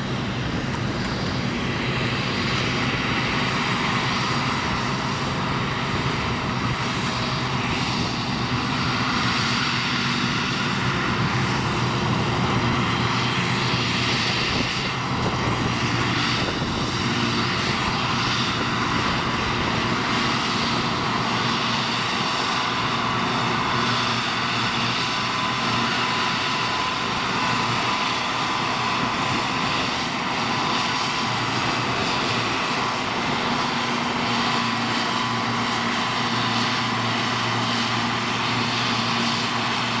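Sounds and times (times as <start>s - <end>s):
diesel tractor working: 0.0s - 40.0s
second tractor running: 0.0s - 40.0s.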